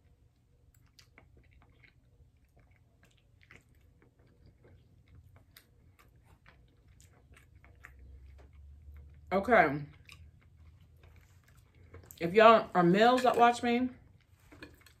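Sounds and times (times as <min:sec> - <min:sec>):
chewing food: 0:00.0 - 0:12.4.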